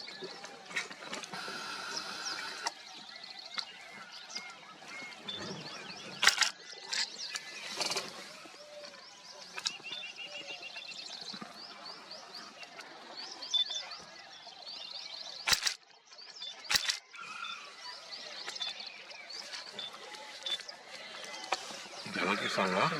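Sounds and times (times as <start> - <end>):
forest birds chirping: 0.0 - 22.9.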